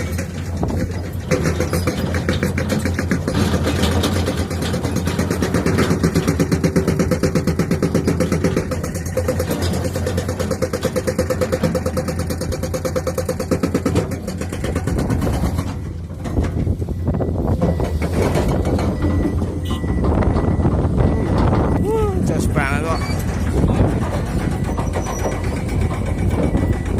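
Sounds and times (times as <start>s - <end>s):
excavator diesel engine pulsing: 0.0s - 26.9s.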